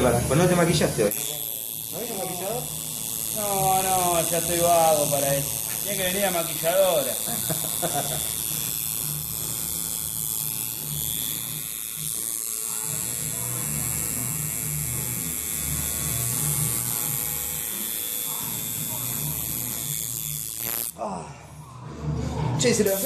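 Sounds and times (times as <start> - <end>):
tattoo machine buzzing: 0.0 - 23.0.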